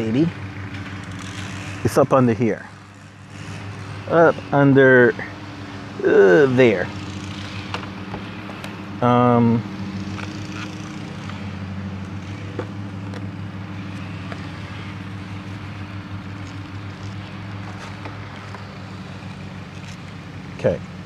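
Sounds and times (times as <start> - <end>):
distant motor humming: 0.0 - 21.0.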